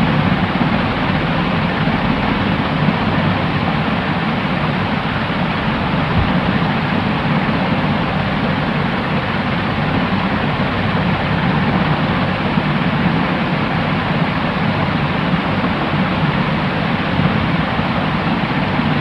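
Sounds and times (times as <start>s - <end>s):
white noise: 0.0s - 19.0s.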